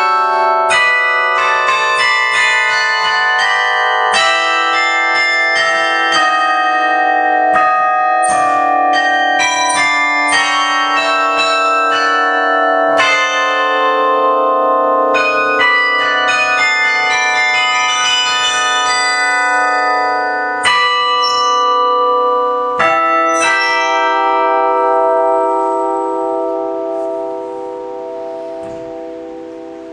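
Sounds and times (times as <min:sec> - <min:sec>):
carillon bells playing melody: 0:00.0 - 0:29.9.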